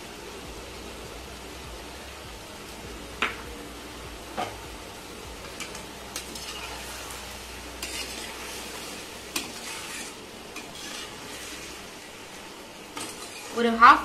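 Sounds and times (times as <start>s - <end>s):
frying hiss in oil: 0.0s - 14.0s.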